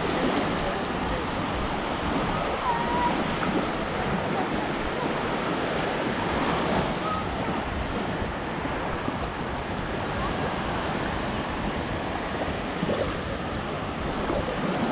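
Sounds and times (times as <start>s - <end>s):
small waves breaking on shore: 0.0s - 14.9s
wind buffeting microphone: 0.0s - 14.9s.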